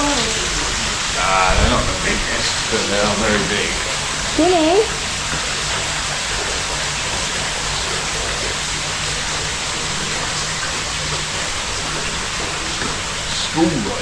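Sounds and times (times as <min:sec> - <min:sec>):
running water hiss: 0:00.0 - 0:14.0.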